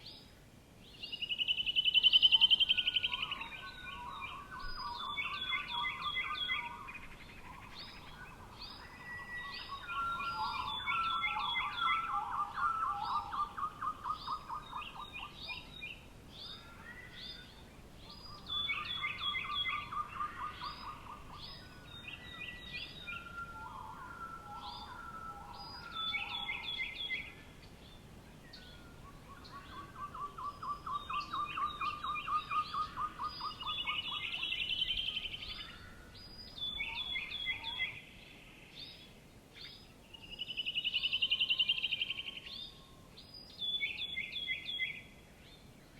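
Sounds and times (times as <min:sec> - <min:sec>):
songbirds trilling: 0:00.0 - 0:45.9.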